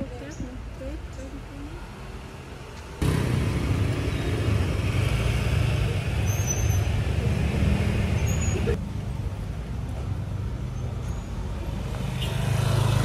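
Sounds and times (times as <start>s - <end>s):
passing traffic rumble: 0.0s - 13.0s.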